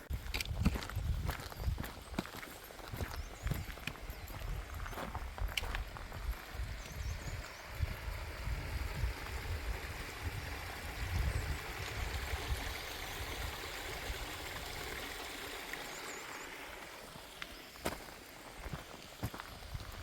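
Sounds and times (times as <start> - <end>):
stream water rushing: 2.4 - 20.0.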